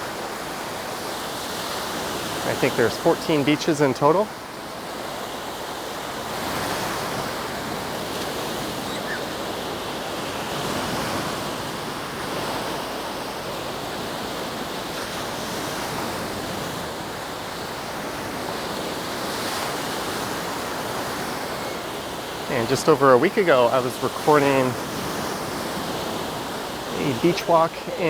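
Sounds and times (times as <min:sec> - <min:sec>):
small waves washing on sand: 0:00.0 - 0:28.0.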